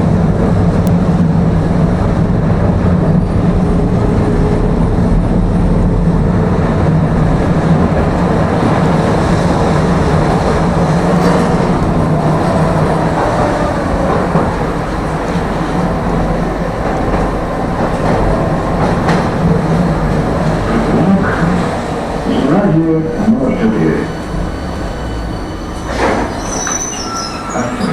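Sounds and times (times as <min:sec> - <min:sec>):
tram low hum: 0:00.0 - 0:27.9
wheels rumbling on rails: 0:00.0 - 0:27.9.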